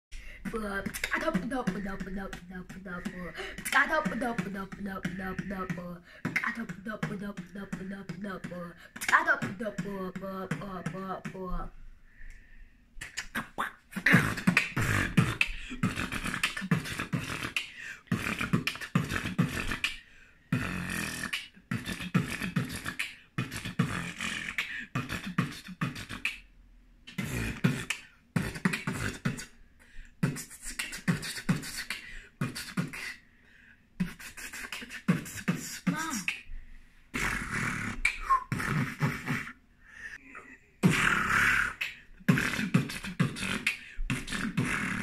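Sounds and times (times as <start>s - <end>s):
boy beatboxing: 0.1s - 11.8s, 13.0s - 33.3s, 34.0s - 39.6s, 40.4s - 45.0s.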